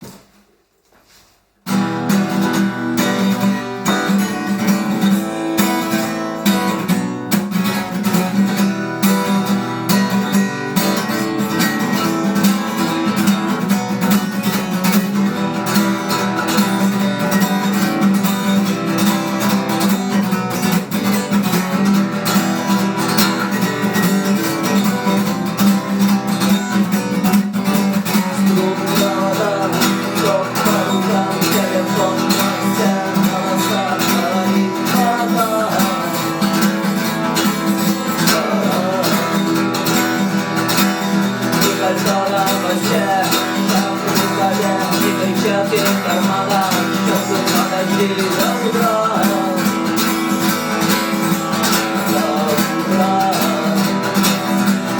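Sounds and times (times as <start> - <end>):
acoustic guitar strumming: 1.1 - 54.9.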